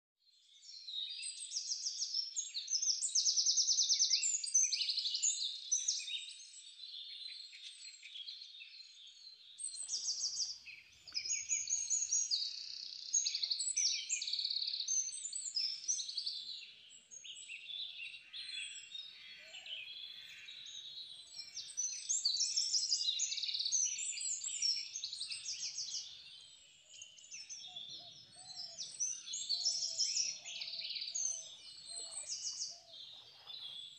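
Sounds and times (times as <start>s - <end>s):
small birds chirping and trilling: 0.3s - 33.9s.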